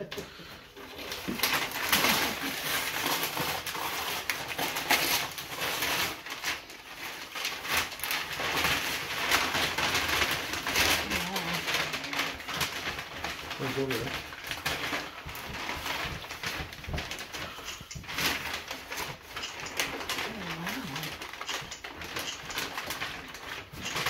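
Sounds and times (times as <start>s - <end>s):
paper rustling and tearing: 0.8s - 24.0s.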